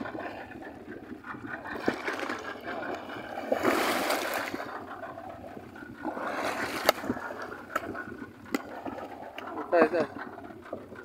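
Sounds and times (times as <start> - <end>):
fish thrashing and splashing water: 0.0 - 10.3.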